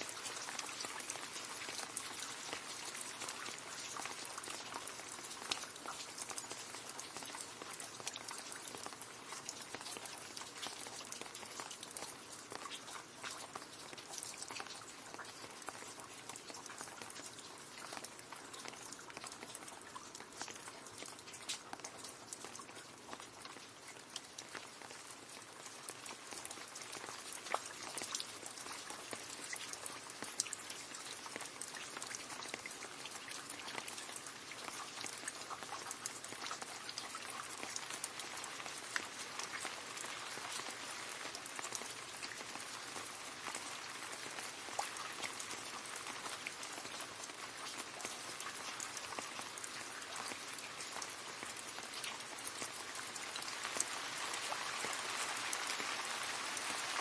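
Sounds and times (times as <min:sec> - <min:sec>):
rain splashing into a puddle: 0:00.0 - 0:57.0.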